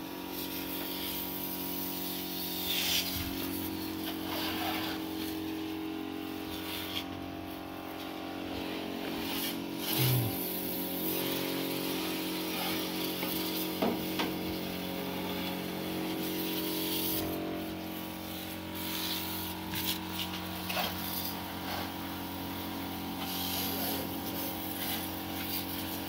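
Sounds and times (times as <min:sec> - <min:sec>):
steady motor hum: 0:00.0 - 0:26.0
water jet spraying on metal: 0:00.2 - 0:26.0.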